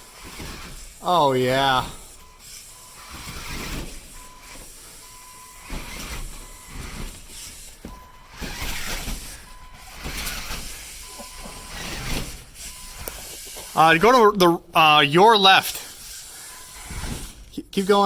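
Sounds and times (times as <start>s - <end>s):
rc car motor and wheels scraping: 0.0s - 14.0s, 15.6s - 18.0s.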